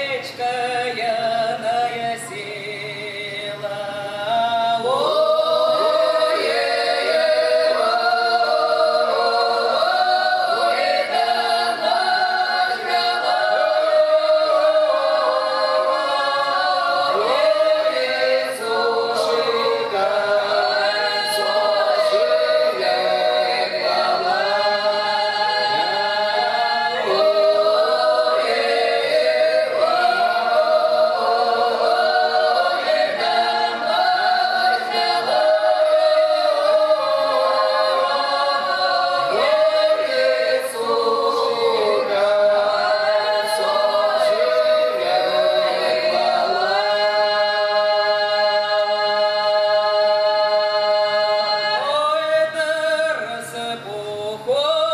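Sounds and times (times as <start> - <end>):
a cappella folk choir singing: 0.0 - 54.9.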